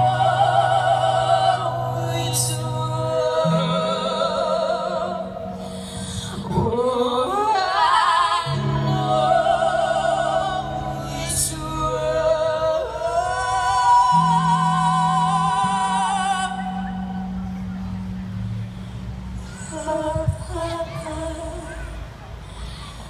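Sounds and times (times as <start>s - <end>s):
woman singing with vibrato: 0.0s - 17.6s, 19.5s - 22.0s.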